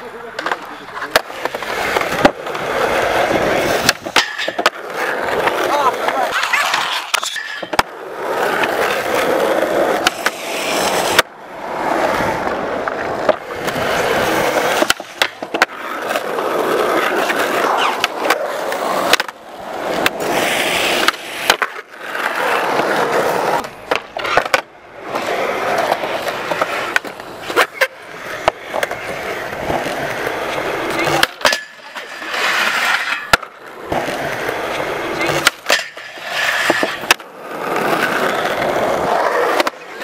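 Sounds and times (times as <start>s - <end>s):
skateboard scraping metal rail: 0.0s - 40.0s
skateboard wheels rolling: 0.0s - 40.0s
skateboard tail pops and clacks: 0.3s - 11.3s, 12.2s - 40.0s.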